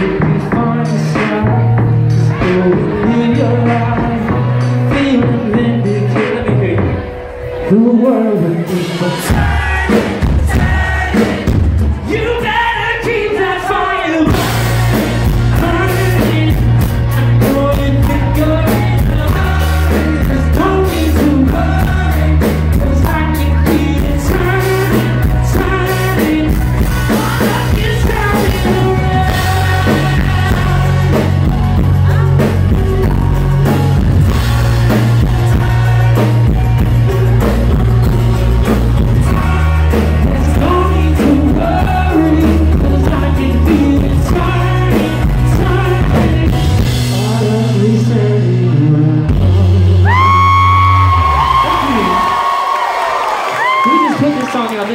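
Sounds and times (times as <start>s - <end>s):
person singing: 0.0s - 52.5s
drums: 0.0s - 54.9s
live rock band playing: 0.0s - 54.9s.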